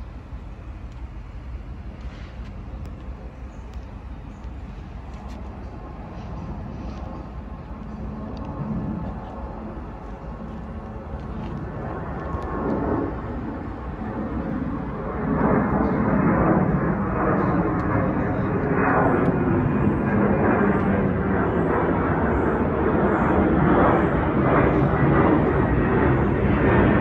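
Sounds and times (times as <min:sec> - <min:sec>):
jet airliner flying overhead: 0:00.0 - 0:27.0.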